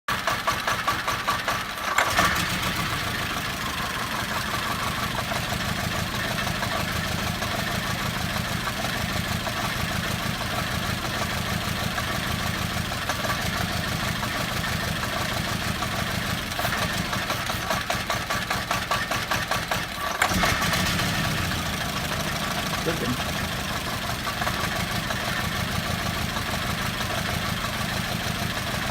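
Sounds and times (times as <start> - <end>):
car engine idling roughly: 0.1 - 28.9.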